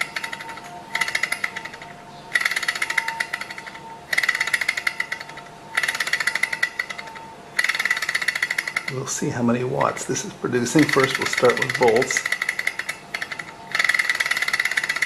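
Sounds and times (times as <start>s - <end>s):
small engine rattling: 0.0s - 15.0s.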